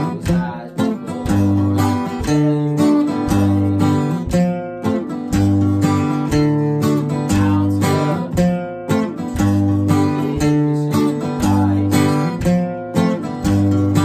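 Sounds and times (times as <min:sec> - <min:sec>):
acoustic guitars strumming chords: 0:00.0 - 0:14.0.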